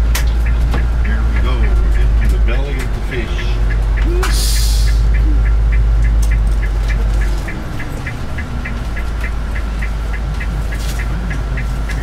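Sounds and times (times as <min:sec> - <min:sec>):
bus engine and road drone: 0:00.0 - 0:12.0
fast even ticking: 0:00.0 - 0:12.0.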